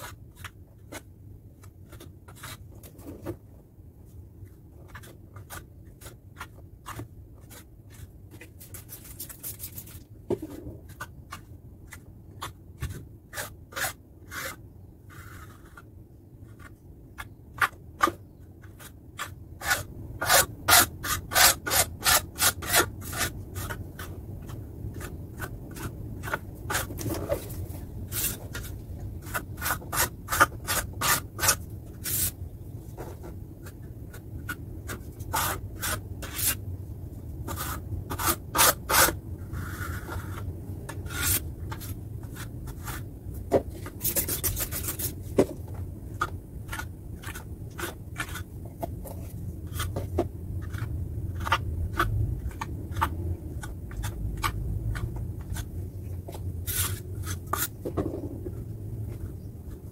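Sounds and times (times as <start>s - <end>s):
putty knife scraping plaster: 0.0s - 3.4s, 4.9s - 32.4s, 33.0s - 36.6s, 37.5s - 43.1s, 43.7s - 45.4s, 46.1s - 55.7s, 56.3s - 58.4s.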